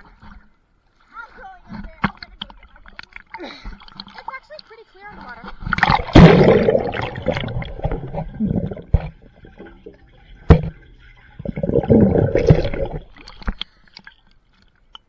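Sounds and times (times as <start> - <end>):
pool water sloshing and gurgling: 0.0 - 15.0
water splashing: 0.0 - 15.0.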